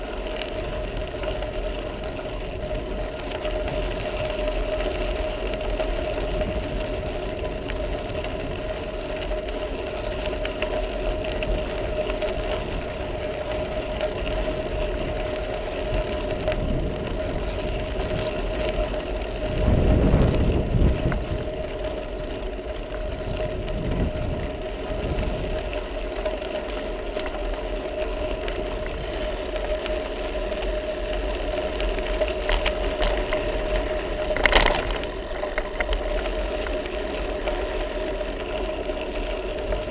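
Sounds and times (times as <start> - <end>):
bicycle tyres on gravel: 0.0 - 39.9
wind rumble: 0.0 - 39.9.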